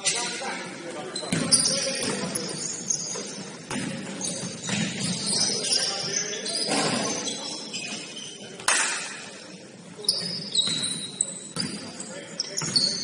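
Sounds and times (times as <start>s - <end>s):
sneakers squeaking on hardwood floor: 0.0s - 13.0s.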